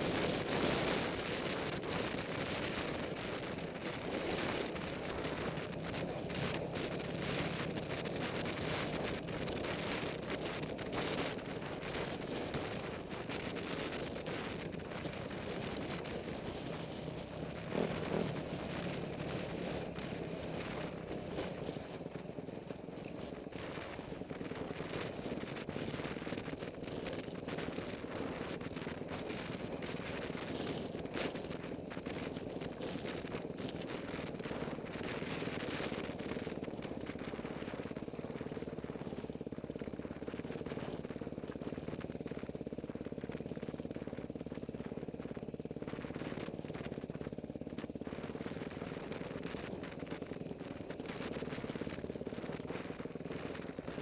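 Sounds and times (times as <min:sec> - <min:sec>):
dirt bike engine rattling: 0:00.0 - 0:54.0.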